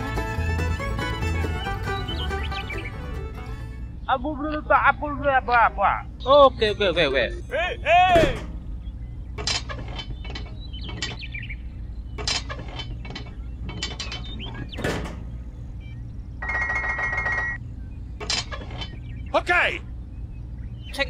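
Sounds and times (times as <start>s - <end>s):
steady low hum: 3.7s - 21.0s.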